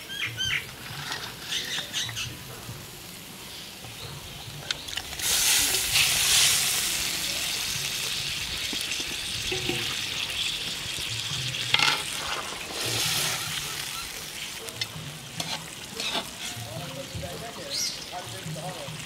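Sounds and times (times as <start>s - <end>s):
fish sizzling in gravy: 0.7s - 19.0s.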